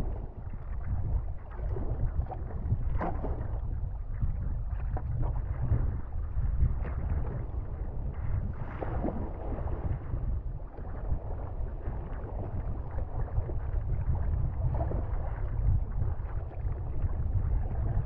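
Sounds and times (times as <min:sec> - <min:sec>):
water sloshing around kayak: 0:00.0 - 0:18.0
wind rumble on microphone: 0:00.0 - 0:18.0.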